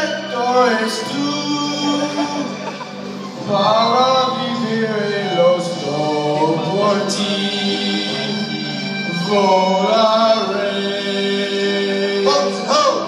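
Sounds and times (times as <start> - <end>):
keyboard accompaniment: 0.0 - 13.0
man singing a slow ballad: 0.0 - 13.0.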